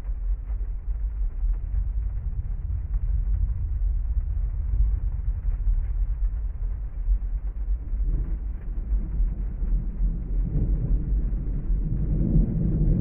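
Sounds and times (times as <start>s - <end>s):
low thunder roll: 0.0s - 13.0s
rain on car: 0.0s - 13.0s.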